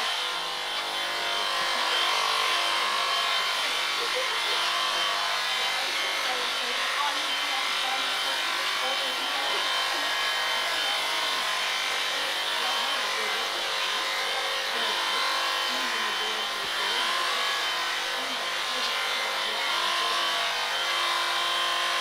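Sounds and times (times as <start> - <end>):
electric shears motor whine: 0.0 - 22.0.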